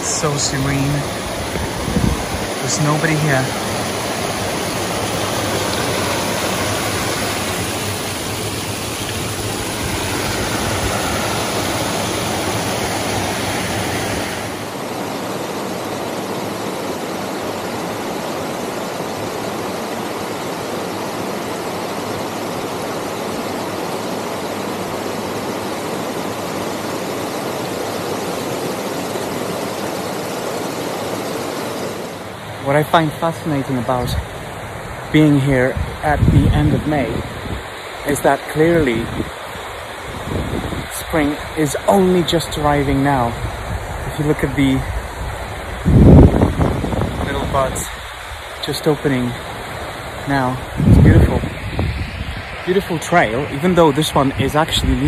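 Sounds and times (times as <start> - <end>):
waterfall stream rushing: 0.0 - 55.0.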